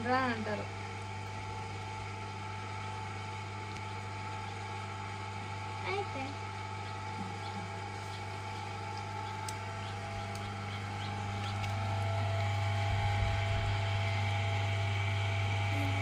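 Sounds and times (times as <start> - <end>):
potter's wheel motor hum: 0.0 - 16.0.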